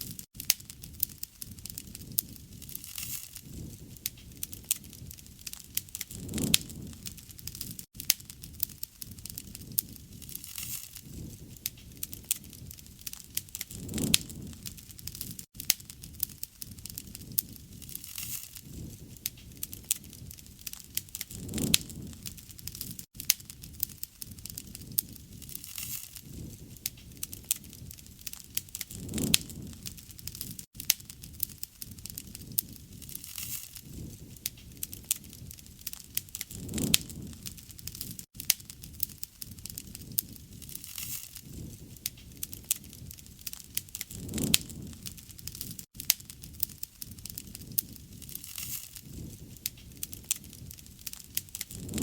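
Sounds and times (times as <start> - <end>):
low flame rumble: 0.0 - 52.0
wood fire crackling and popping: 0.0 - 52.0.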